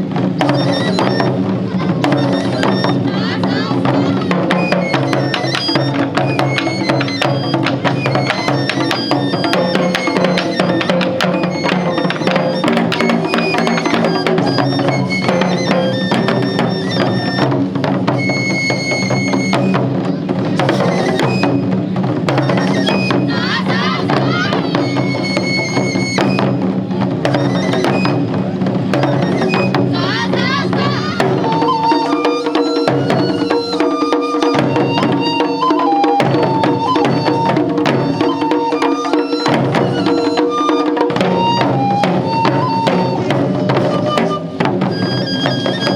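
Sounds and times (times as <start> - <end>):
fast drum strikes: 0.0 - 45.9.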